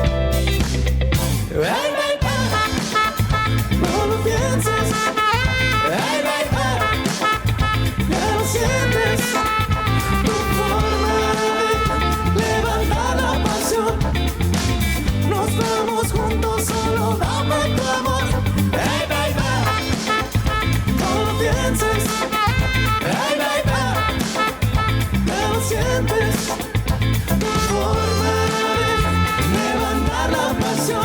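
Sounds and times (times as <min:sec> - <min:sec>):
funk band with electric guitar: 0:00.0 - 0:01.6, 0:02.2 - 0:31.0.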